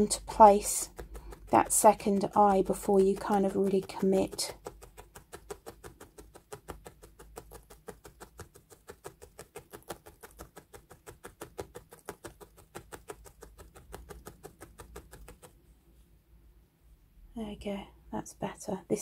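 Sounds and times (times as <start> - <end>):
felting needle poking wool: 0.0 - 16.3.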